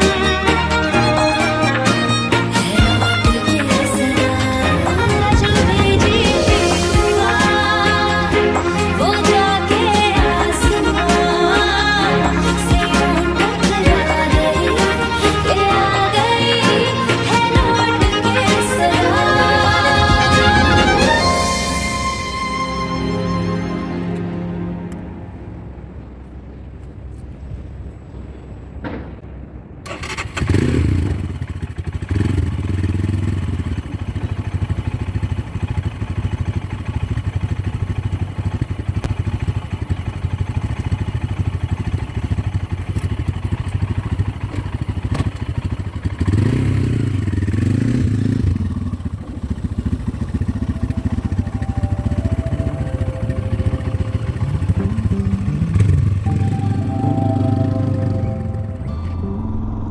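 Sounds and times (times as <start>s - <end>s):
motorcycle engine revving: 0.0s - 23.3s, 29.9s - 59.9s.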